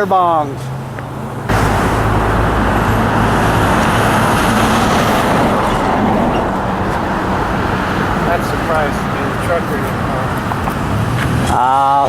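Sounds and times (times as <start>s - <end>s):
freeway traffic roar: 0.0s - 12.0s
low engine drone: 0.7s - 11.6s.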